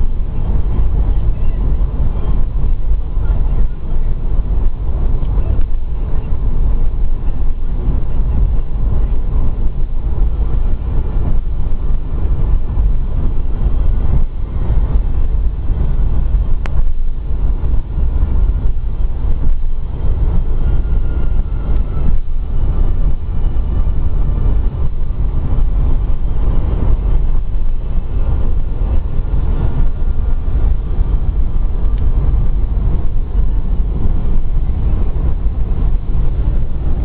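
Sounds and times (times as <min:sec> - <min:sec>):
car driving on highway: 0:00.0 - 0:37.0.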